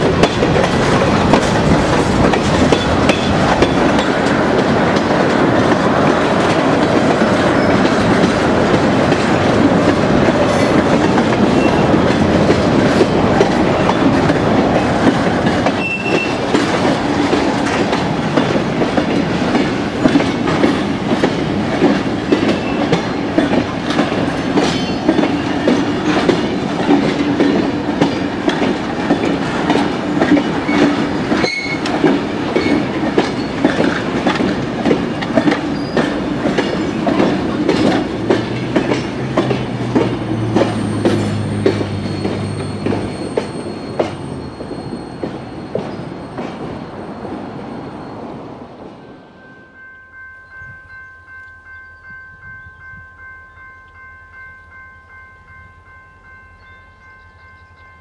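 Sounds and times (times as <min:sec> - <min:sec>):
train wheels clickety-clack: 0:00.0 - 0:49.0
freight train rumbling and clattering: 0:00.0 - 0:49.3.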